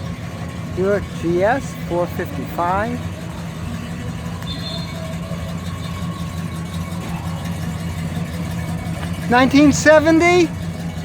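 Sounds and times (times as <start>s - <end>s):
car engine rumbling past: 0.0s - 11.0s.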